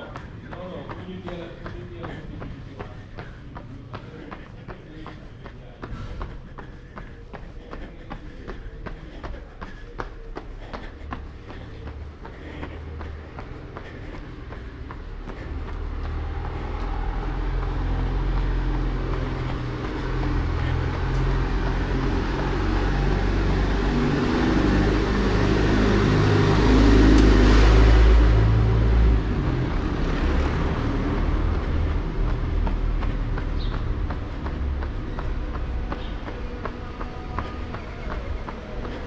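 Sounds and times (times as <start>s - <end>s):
vehicle engines running: 0.0s - 39.0s
vehicle passing: 0.0s - 39.0s.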